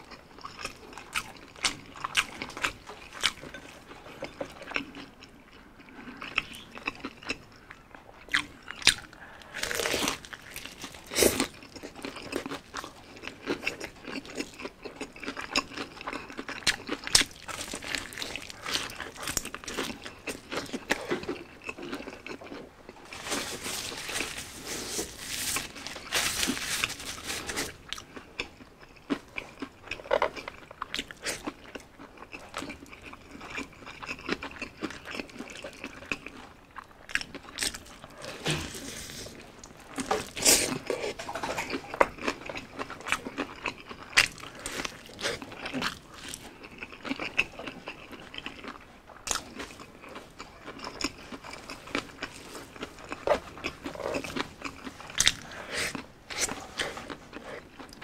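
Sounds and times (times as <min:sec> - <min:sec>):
crunching and chewing fried chicken: 0:00.0 - 0:58.0.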